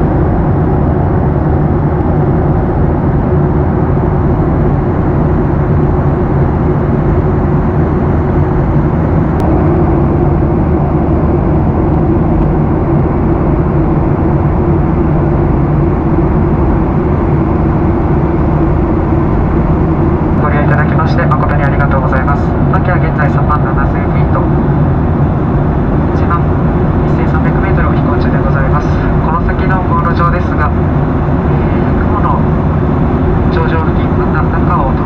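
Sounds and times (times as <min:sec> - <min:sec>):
airplane cabin noise: 0:00.0 - 0:35.0.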